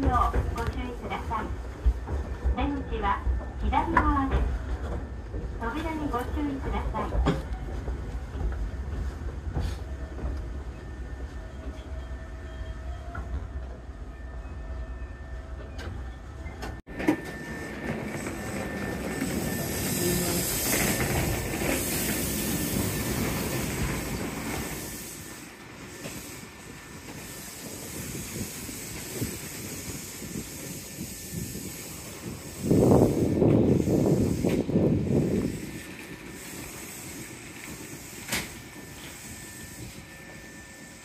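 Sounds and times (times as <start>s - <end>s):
train wheels and motors rumbling: 0.0s - 41.0s.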